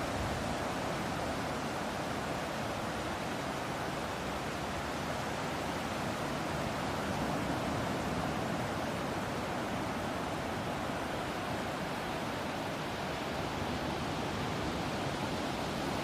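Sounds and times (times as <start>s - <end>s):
ocean surf: 0.0s - 16.0s
sea breeze: 0.0s - 16.0s.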